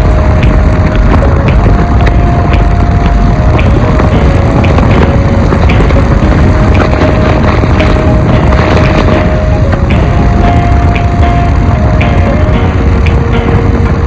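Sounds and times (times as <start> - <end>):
thin whine changing pitch: 0.0 - 14.0
vehicle engine rumbling: 0.0 - 14.0.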